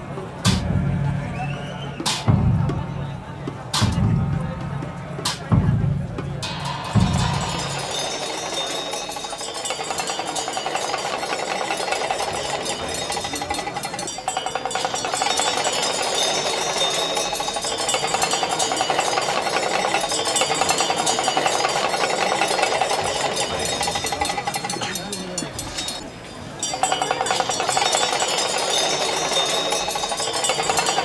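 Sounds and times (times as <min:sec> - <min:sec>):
cymbal and drum strokes: 0:00.3 - 0:31.0.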